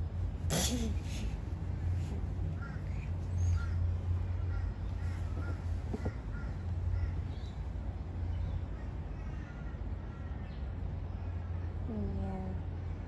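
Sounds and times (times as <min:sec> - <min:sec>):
steady low hum: 0:00.0 - 0:13.0
birds chirping: 0:00.9 - 0:12.1.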